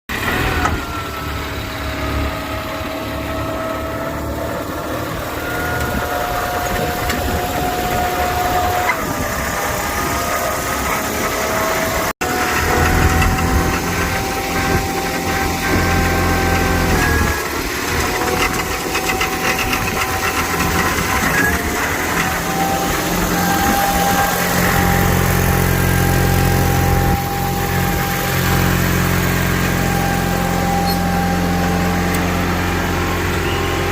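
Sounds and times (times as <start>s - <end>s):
skid steer engine rumble: 0.1s - 33.9s
whine shifting in pitch: 0.1s - 33.9s.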